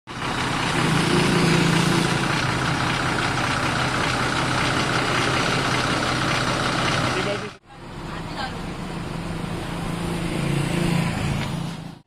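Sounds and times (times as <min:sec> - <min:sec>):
diesel engine idling: 0:00.1 - 0:12.0.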